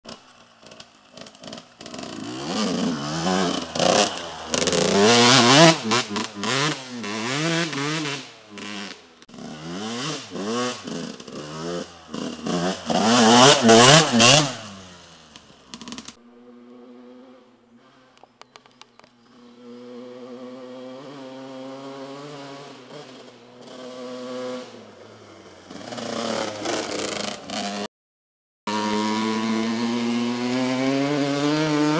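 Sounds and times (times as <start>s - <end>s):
motocross bike engine revving: 0.1s - 18.5s, 19.2s - 27.9s, 28.7s - 31.9s.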